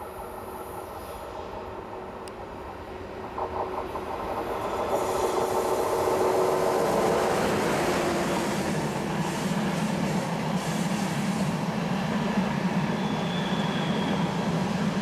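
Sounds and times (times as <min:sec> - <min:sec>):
electric locomotive whine: 0:00.0 - 0:15.0
train wheels rumbling on rails: 0:00.0 - 0:15.0.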